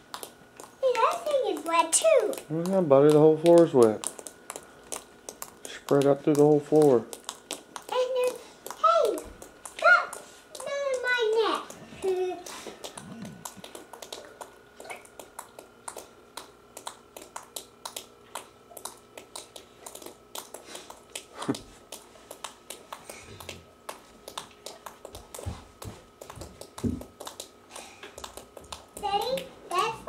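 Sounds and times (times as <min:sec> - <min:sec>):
water dripping: 0:00.0 - 0:12.2, 0:12.8 - 0:29.9
faint steady whine: 0:00.0 - 0:30.0.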